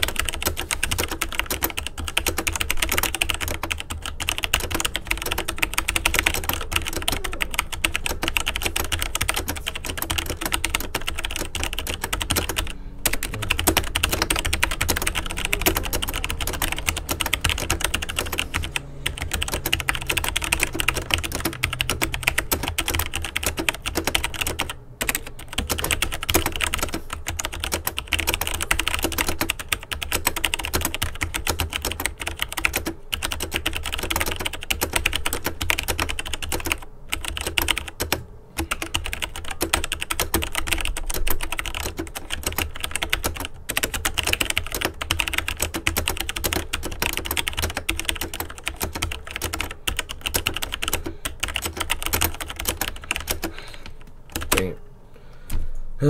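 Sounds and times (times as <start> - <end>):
fast mechanical keyboard typing: 0.0 - 54.8.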